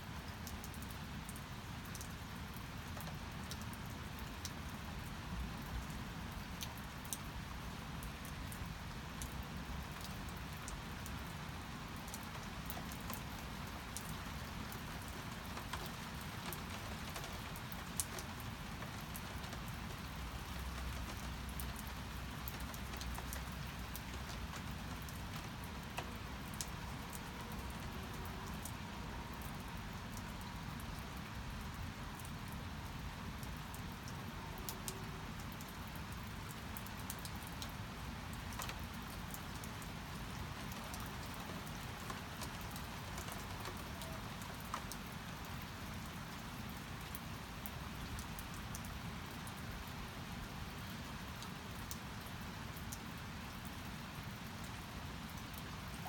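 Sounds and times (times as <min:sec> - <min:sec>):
raindrops striking a surface: 0:00.0 - 0:56.0
steady rain falling: 0:00.0 - 0:56.0.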